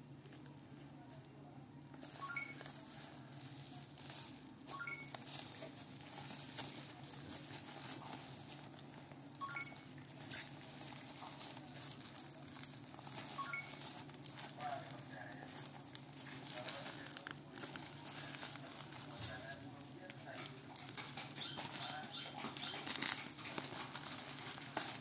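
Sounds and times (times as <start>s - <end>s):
faint steady hum: 0.0s - 25.0s
plastic wrapping crinkling: 0.0s - 25.0s.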